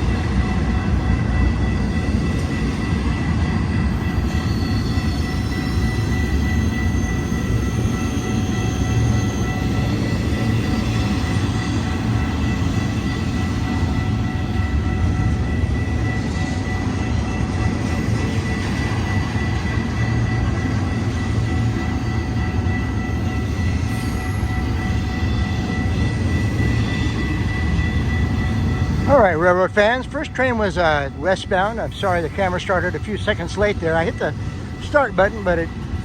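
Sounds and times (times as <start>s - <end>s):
high-pitched ring: 0.0s - 36.0s
train wheels rumbling on rail: 0.0s - 36.0s.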